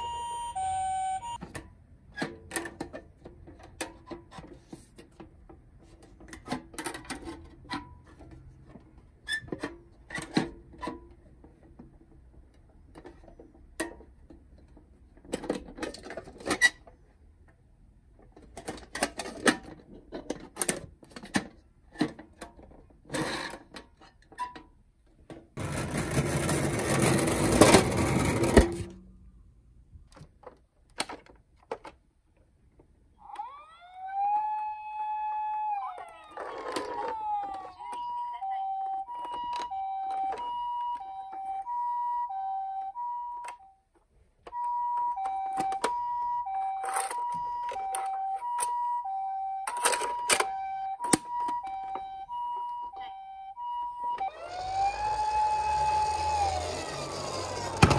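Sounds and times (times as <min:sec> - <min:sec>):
toys clicking and knocking in a box: 0:01.2 - 0:26.9, 0:30.1 - 0:43.6, 0:44.4 - 0:53.3.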